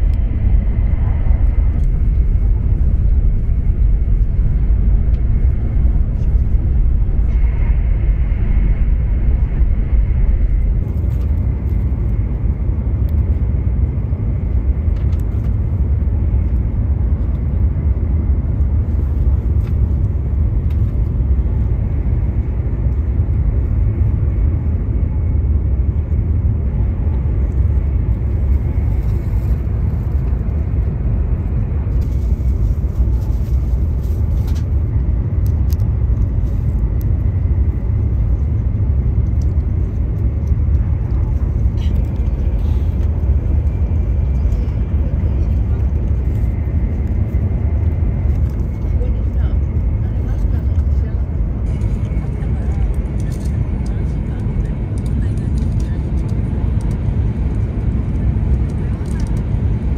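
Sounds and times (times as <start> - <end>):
train running low rumble: 0.0 - 59.9.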